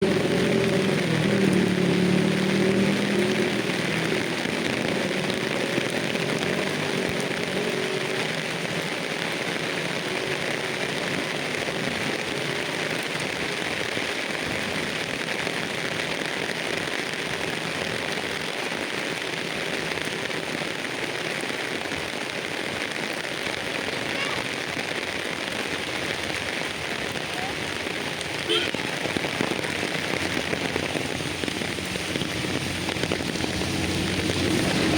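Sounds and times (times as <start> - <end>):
rain falling on foliage: 0.0 - 34.9.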